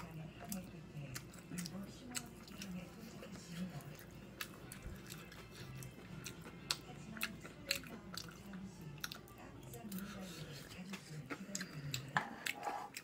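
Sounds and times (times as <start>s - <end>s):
chewing and mouth smacks: 0.4s - 13.0s.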